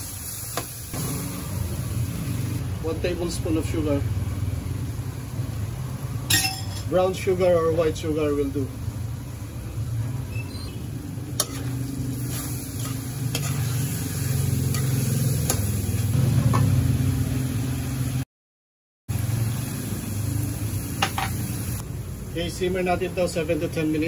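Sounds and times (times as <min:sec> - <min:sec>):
food sizzling in a wok: 0:00.0 - 0:06.3, 0:07.4 - 0:18.2, 0:19.1 - 0:24.0.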